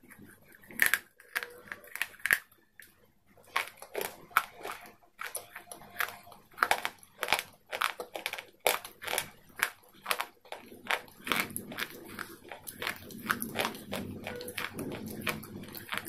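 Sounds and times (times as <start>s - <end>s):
crunching and chewing chalk: 0.0s - 16.0s.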